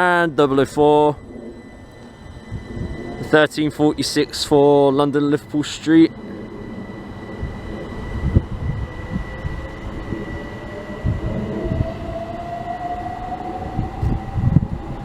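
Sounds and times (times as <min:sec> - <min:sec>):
low rumble of train wheels: 0:00.0 - 0:15.0
train traction motor whine: 0:00.0 - 0:15.0.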